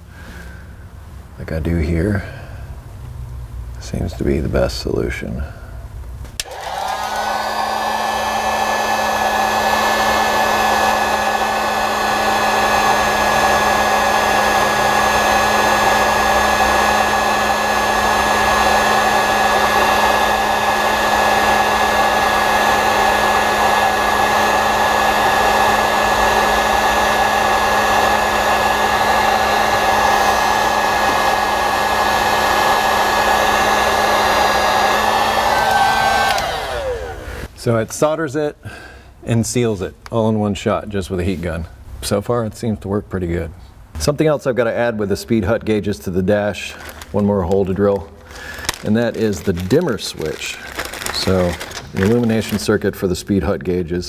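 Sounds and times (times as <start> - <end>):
heat gun fan humming: 0.0 - 37.6, 44.9 - 53.8.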